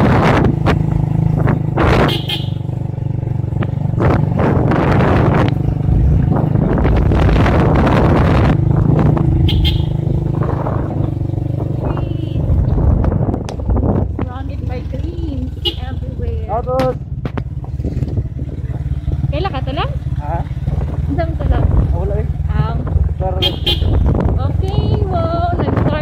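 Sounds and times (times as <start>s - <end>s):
wind noise on microphone: 0.0s - 2.5s, 3.6s - 14.7s, 17.2s - 19.4s, 20.6s - 26.0s
motorcycle engine running: 0.0s - 26.0s.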